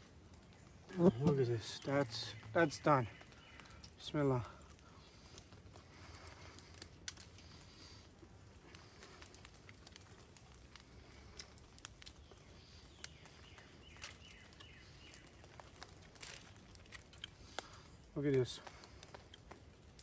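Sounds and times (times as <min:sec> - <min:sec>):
small clicks and rustles: 0:00.0 - 0:20.0.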